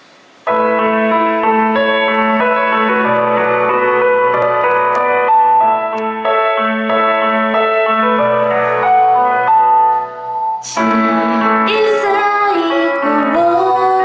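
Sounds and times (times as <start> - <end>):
piano ballad over speakers: 0.0 - 14.0.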